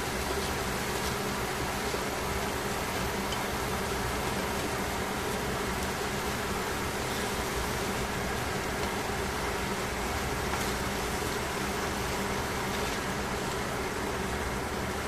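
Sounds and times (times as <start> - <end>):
pork sizzling in frying pan: 0.0 - 14.7.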